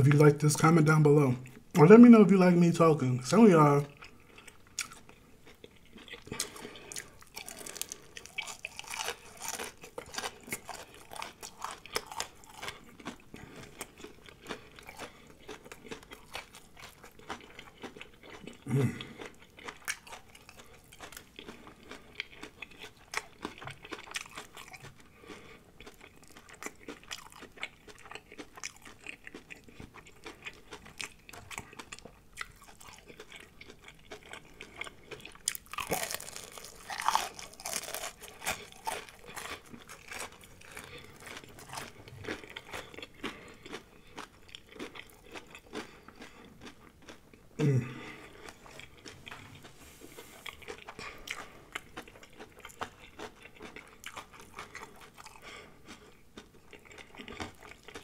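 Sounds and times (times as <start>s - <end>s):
crunchy chewing: 3.9s - 58.0s.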